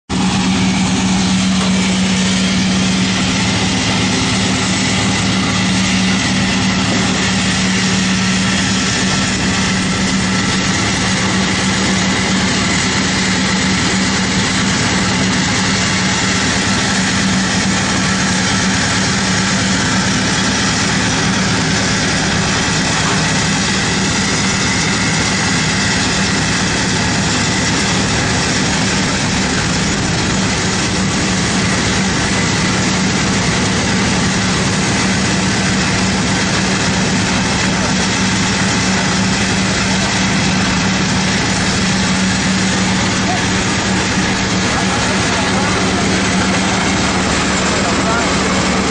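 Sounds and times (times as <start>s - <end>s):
wood chipper running: 0.1s - 48.9s.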